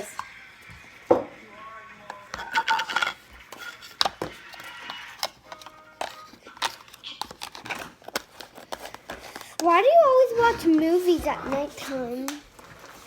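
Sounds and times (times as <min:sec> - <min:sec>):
containers clicking and clinking: 0:00.0 - 0:13.0.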